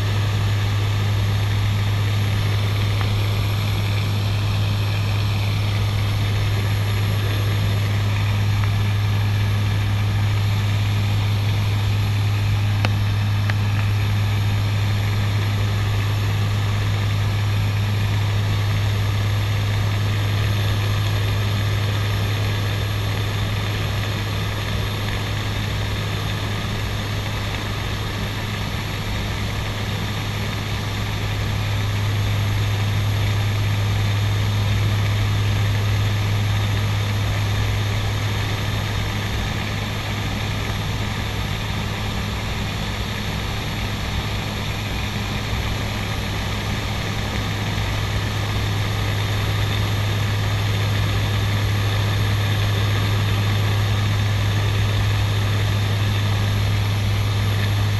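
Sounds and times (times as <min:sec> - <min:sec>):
turboprop engines droning: 0:00.0 - 0:57.9.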